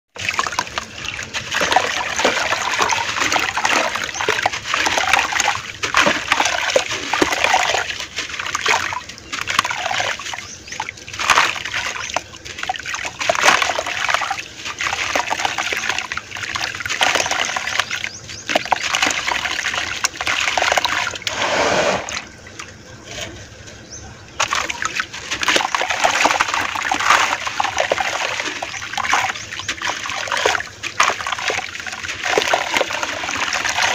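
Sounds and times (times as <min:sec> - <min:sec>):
hands sloshing through water: 0:00.2 - 0:23.4, 0:24.4 - 0:33.9.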